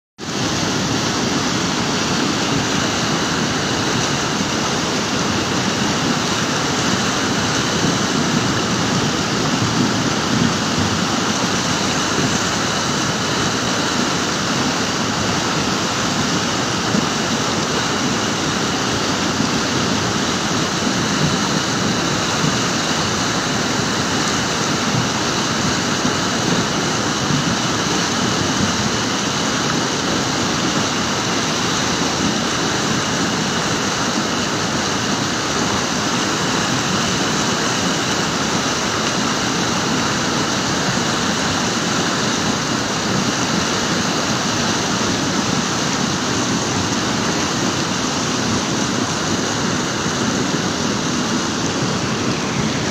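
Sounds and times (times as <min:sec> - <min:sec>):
river water rushing over rocks: 0:00.2 - 0:52.9.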